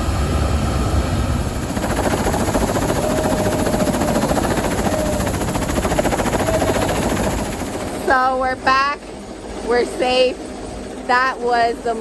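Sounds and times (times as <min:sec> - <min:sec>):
faint whine: 0:00.0 - 0:12.0
helicopter engine noise: 0:00.0 - 0:12.0
helicopter rotor beating: 0:00.0 - 0:12.0.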